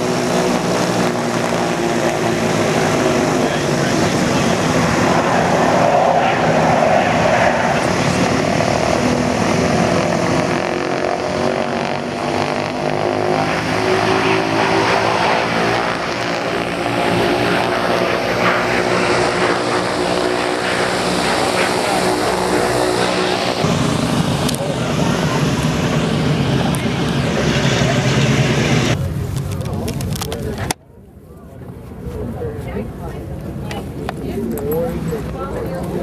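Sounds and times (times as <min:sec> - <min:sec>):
propeller airplane engine droning: 0:00.0 - 0:36.0.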